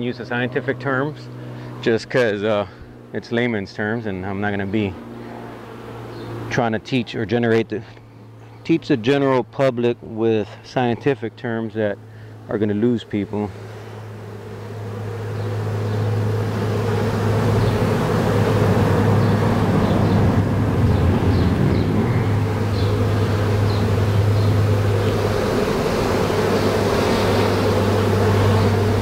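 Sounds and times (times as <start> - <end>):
bee swarm buzzing: 0.0 - 29.0
steady low hum: 0.0 - 29.0.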